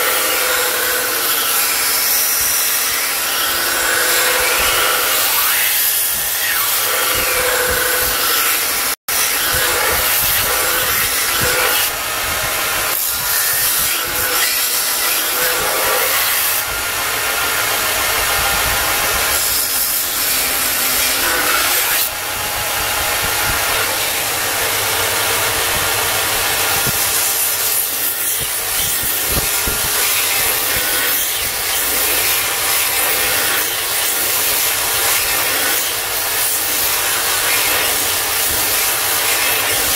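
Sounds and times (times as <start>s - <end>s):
belt grinder grinding knife blade: 0.0s - 39.9s.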